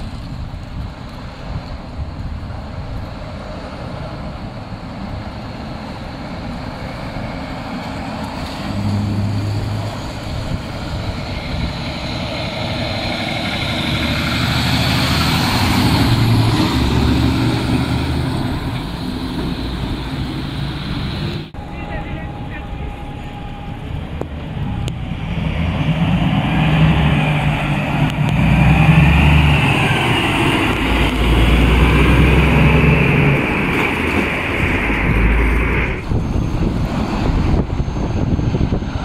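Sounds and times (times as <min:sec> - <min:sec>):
car traffic: 0:00.0 - 0:39.0
dump truck diesel engine passing: 0:00.0 - 0:39.0.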